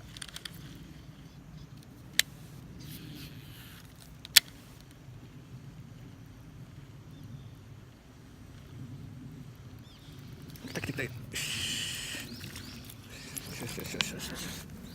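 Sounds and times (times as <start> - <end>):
low outdoor rumble: 0.0 - 14.9.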